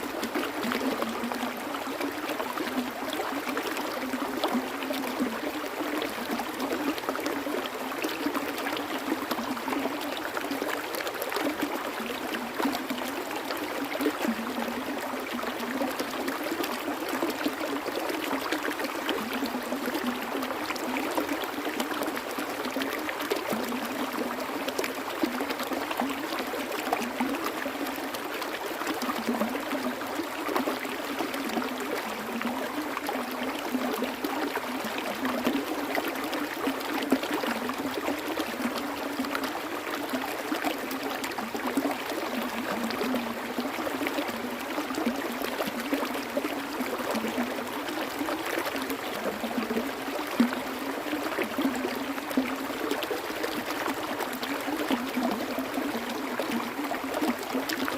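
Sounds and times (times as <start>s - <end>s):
water trickling and gurgling: 0.0s - 57.9s.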